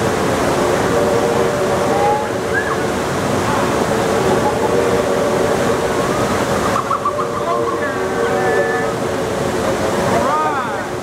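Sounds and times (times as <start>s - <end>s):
faint steady hum: 0.0s - 11.0s
water rushing over rocks: 0.0s - 11.0s.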